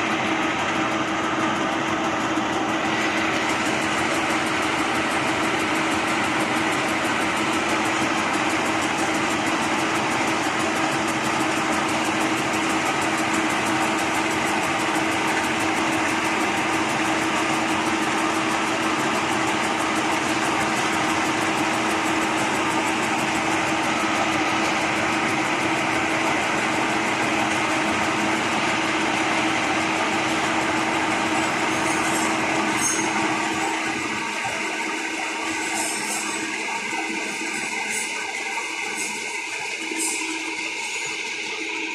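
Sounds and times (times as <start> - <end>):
metal lathe droning: 0.0 - 41.9.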